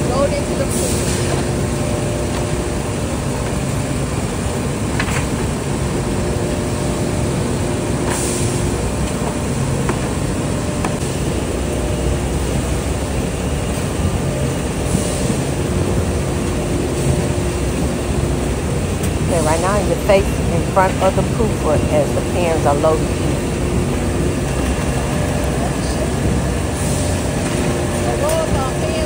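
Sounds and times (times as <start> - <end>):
production-line machinery hum: 0.0 - 29.0.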